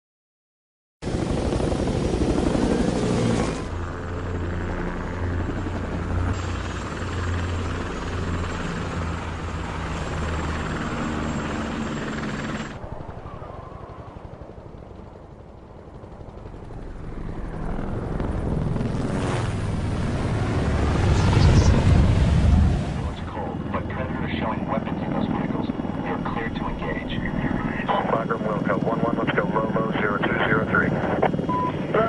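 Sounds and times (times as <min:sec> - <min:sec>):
helicopter rotor and engine: 0:01.0 - 0:32.0.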